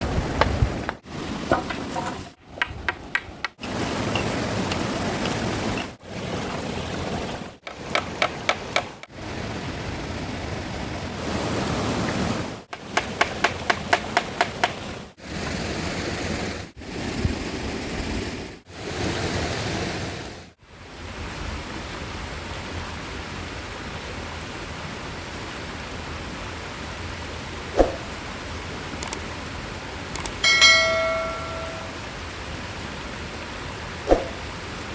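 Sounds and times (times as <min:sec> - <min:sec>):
rushing river water: 0:00.0 - 0:17.8, 0:18.8 - 0:34.9.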